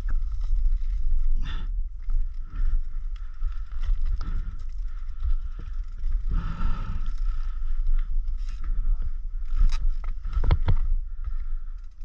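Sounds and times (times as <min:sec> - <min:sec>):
bike tyres rumbling on trail: 0:00.0 - 0:12.0.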